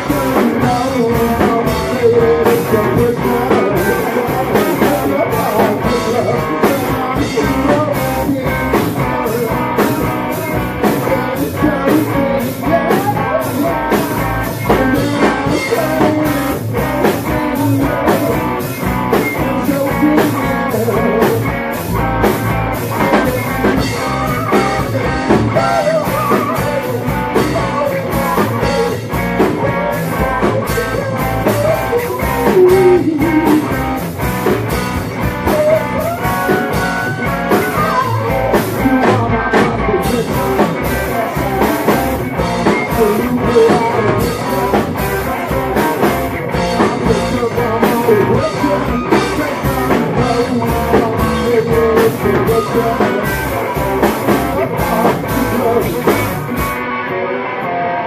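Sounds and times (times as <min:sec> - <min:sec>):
drum kit: 0:00.0 - 0:58.0
electric guitar: 0:00.0 - 0:58.0
person singing: 0:00.0 - 0:58.0.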